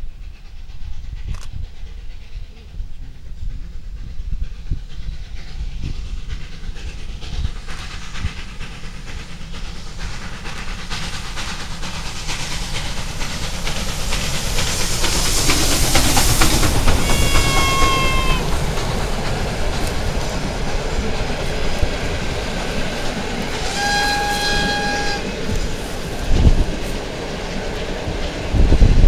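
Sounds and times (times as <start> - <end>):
steam hiss: 0.0 - 29.0
steam locomotive exhaust beats: 0.0 - 29.0.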